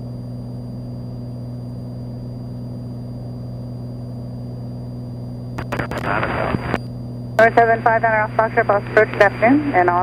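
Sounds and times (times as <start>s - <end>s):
airplane engine droning: 0.0s - 10.0s.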